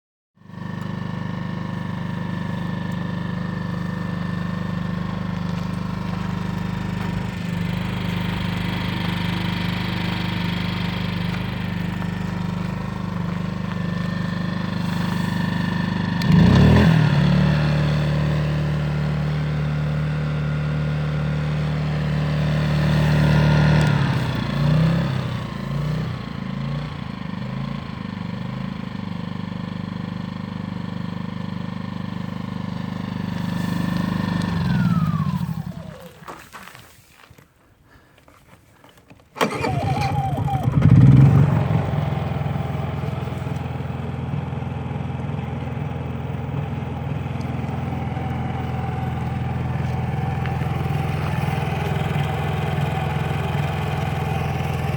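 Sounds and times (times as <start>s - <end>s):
generator engine humming: 0.4s - 36.8s, 39.4s - 54.9s.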